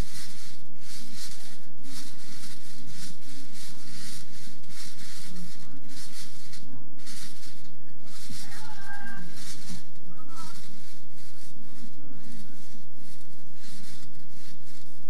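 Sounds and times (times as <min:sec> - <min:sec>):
trampoline bouncing swishes: 0:00.0 - 0:15.0.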